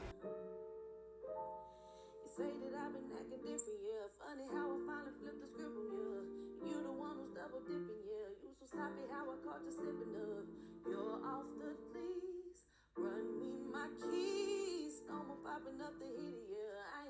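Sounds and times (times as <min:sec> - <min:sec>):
woman singing with keyboard and guitar: 0:02.3 - 0:17.0.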